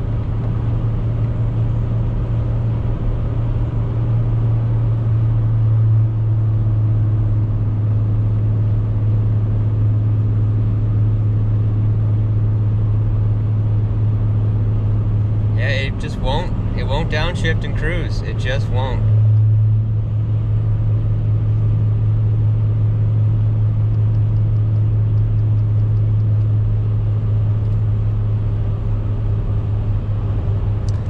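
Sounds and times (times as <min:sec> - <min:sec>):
diesel truck engine drone: 0:00.0 - 0:31.0
road noise: 0:00.0 - 0:31.0.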